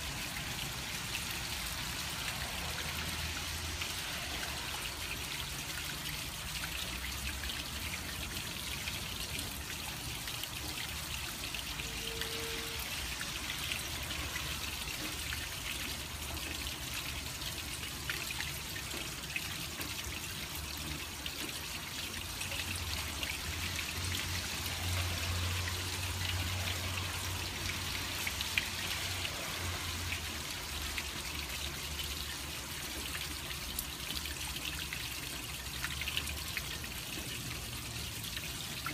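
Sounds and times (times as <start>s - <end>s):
rain falling: 0.0s - 38.9s
water trickling down rain chain: 0.0s - 38.9s.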